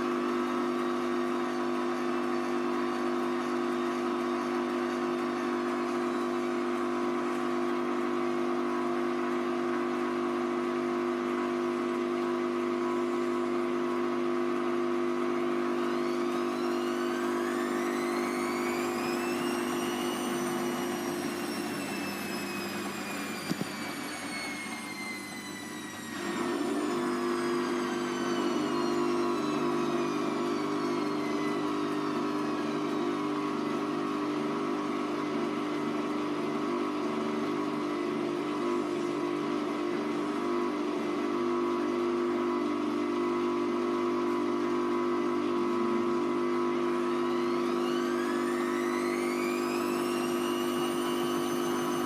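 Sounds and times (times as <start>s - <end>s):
washing machine humming: 0.0s - 52.0s
washing machine motor whine: 0.0s - 52.0s.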